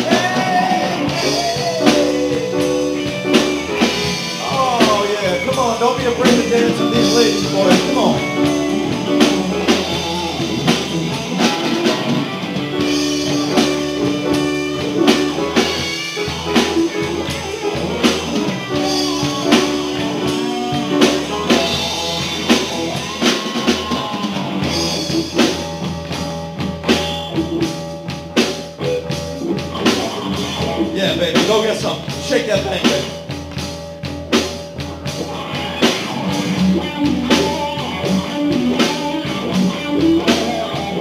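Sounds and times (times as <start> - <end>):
bass guitar: 0.0 - 41.0
drum kit beat: 0.0 - 41.0
electric guitar: 0.0 - 41.0.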